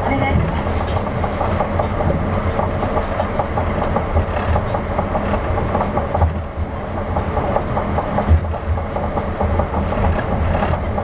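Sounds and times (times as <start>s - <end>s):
tram running noise: 0.0s - 11.0s.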